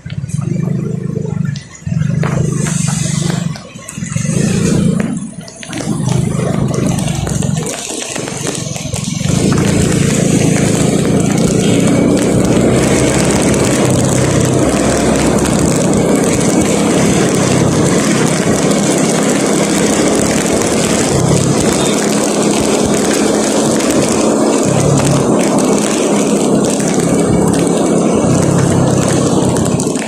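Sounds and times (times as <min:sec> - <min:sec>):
road noise: 0:00.0 - 0:30.0
vehicle engine running: 0:00.0 - 0:30.0.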